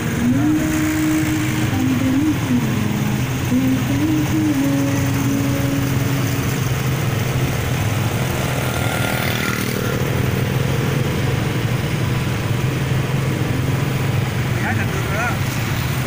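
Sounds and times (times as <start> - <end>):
engines running in traffic: 0.0 - 16.0
road noise: 0.0 - 16.0.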